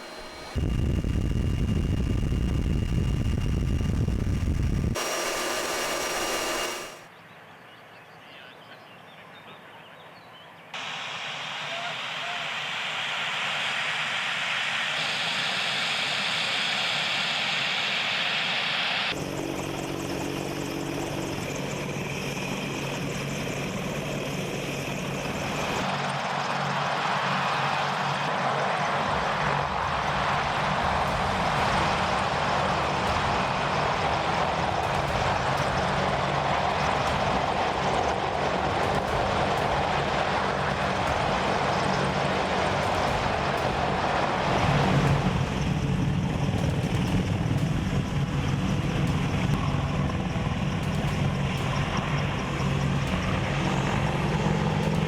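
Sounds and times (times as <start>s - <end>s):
aircraft engine hum: 0.0s - 7.0s, 12.8s - 55.0s
high aircraft engine hiss: 0.0s - 7.0s, 10.8s - 55.0s.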